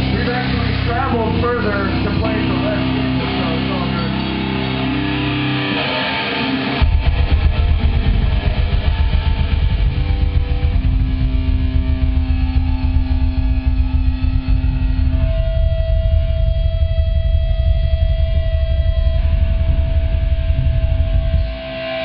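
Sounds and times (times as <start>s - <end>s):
heavy metal band playing fast riff: 0.0s - 22.0s
held electric guitar chord ringing: 0.0s - 22.0s.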